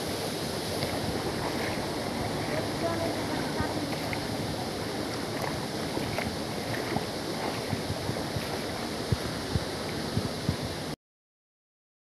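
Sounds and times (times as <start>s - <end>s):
stream running over rocks: 0.0s - 11.0s
footsteps wading through water: 0.7s - 10.7s.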